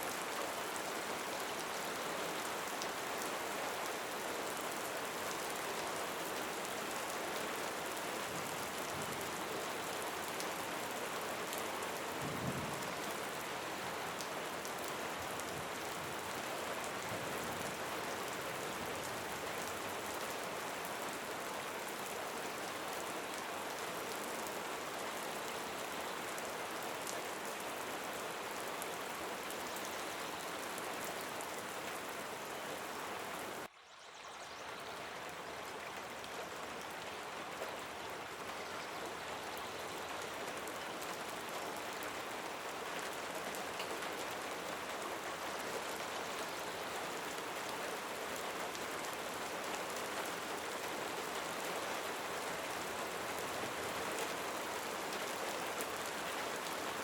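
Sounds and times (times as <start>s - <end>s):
rain pattering: 0.0s - 33.7s, 34.6s - 57.0s.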